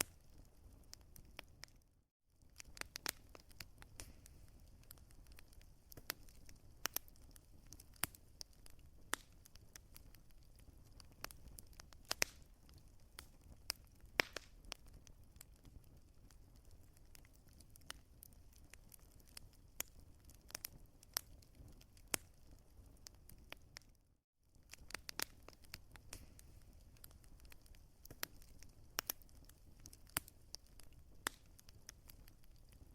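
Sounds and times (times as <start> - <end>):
wood fire crackling and popping: 0.0 - 32.9.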